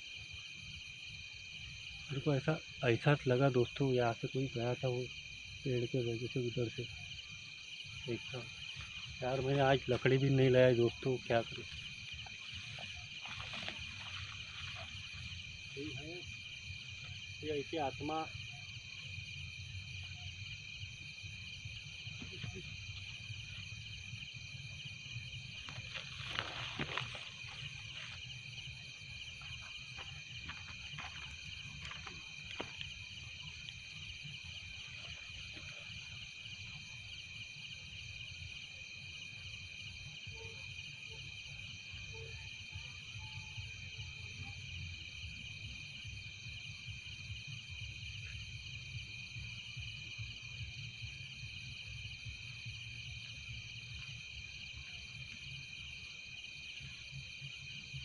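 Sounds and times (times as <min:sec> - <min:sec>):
faint pulsing insect trill: 0:00.0 - 0:58.0
insects trilling: 0:00.0 - 0:58.0.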